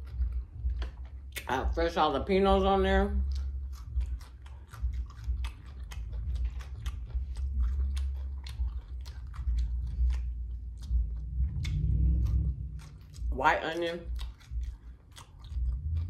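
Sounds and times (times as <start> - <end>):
person chewing crunchy food: 0.0 - 1.8, 2.5 - 16.0.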